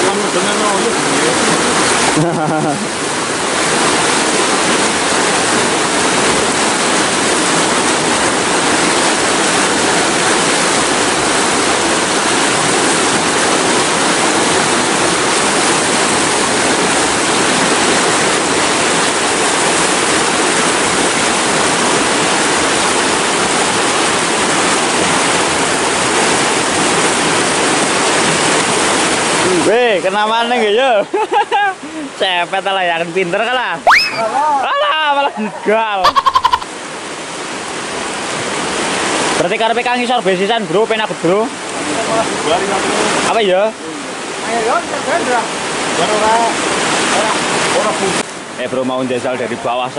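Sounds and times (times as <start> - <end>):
river rushing over stones: 0.0 - 49.9.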